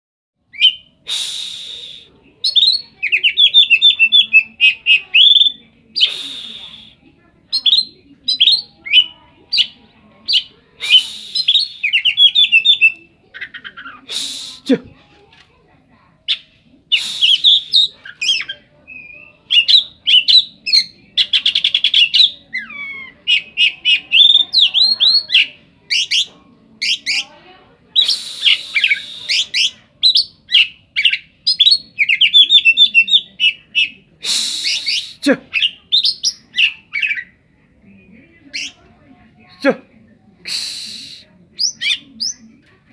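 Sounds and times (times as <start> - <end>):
songbird singing loudly: 0.5 - 14.7, 16.3 - 27.3, 28.0 - 37.4, 38.5 - 38.8, 40.4 - 42.5.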